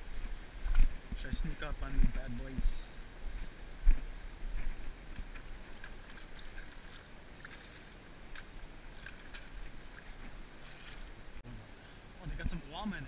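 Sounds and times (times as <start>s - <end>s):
footsteps and gear tapping rock: 0.0s - 11.0s
steady low rumble: 0.0s - 12.6s
water lapping in tide pools: 0.0s - 13.0s.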